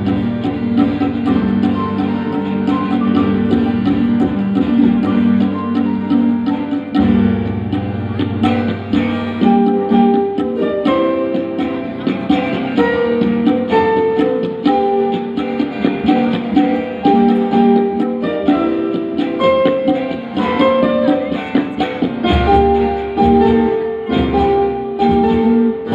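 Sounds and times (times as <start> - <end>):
hand drum: 0.0 - 25.9
keyboards: 0.0 - 25.9.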